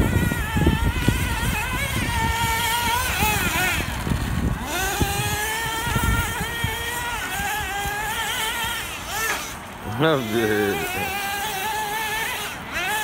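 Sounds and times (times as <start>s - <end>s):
small glow-fuel engine at high revs: 0.0s - 13.0s.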